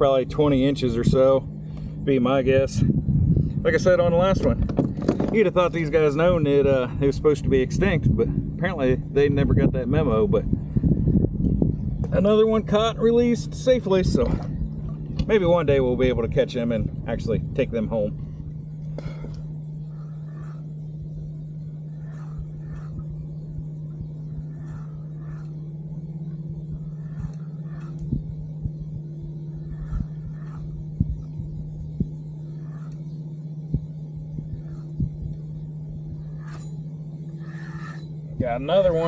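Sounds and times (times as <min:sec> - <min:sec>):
steady low hum: 0:00.0 - 0:39.0
wind rumbling on microphone: 0:00.0 - 0:39.0.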